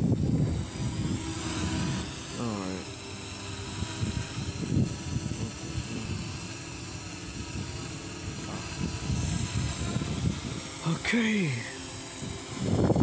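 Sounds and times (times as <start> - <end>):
drone propellers whining: 0.0 - 13.0
wind buffeting microphone: 0.0 - 13.0.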